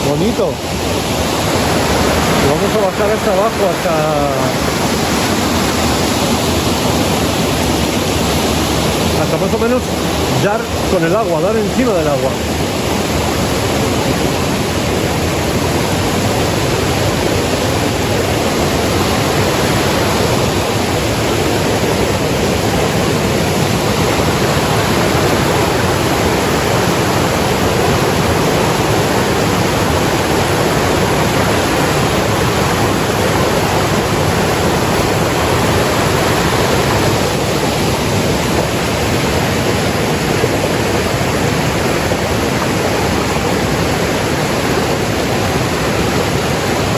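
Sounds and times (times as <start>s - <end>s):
mountain stream roaring over rocks: 0.0s - 46.9s.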